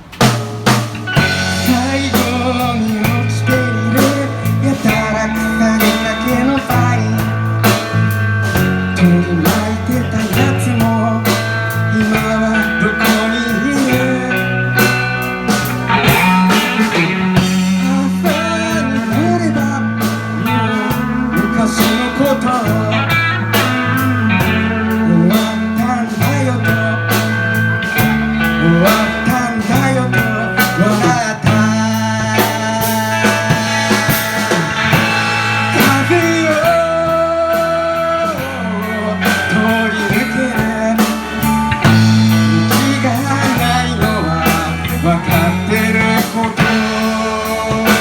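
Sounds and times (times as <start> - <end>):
electric guitar: 0.0 - 48.0
steady drum beat: 0.0 - 48.0
stepping bass line: 0.0 - 48.0.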